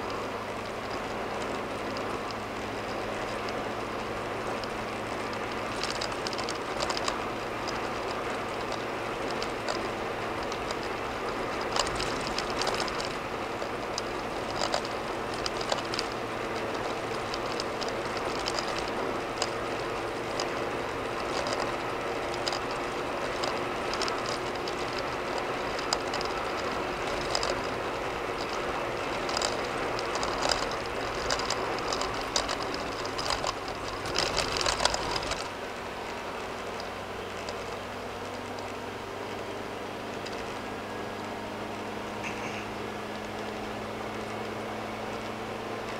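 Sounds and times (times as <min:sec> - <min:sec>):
low engine hum: 0:00.0 - 0:45.9
tyre and road noise: 0:00.0 - 0:45.9.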